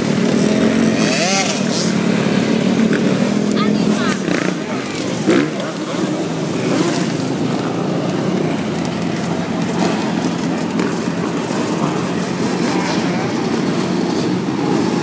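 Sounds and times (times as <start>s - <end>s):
dirt bike and quad engines droning: 0.0s - 15.0s.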